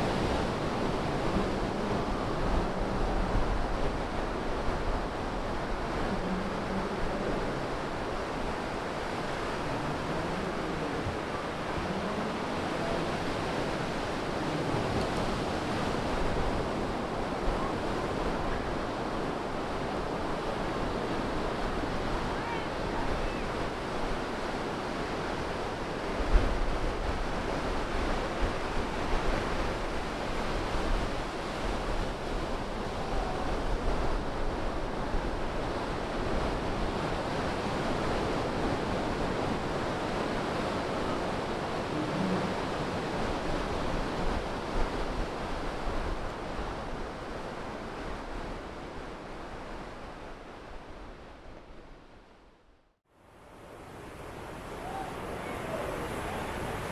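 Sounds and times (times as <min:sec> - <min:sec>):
ocean surf breaking: 0:00.0 - 0:52.0, 0:53.2 - 0:56.9
wind rumble on microphone: 0:00.0 - 0:52.8, 0:53.4 - 0:56.9.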